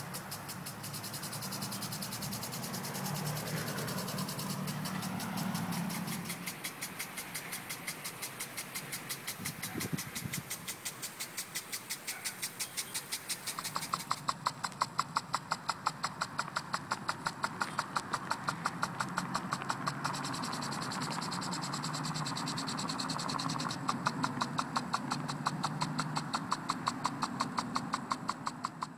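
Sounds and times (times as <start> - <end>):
water spray hissing: 0.0 - 28.6
impulse sprinkler clicking: 0.0 - 28.9.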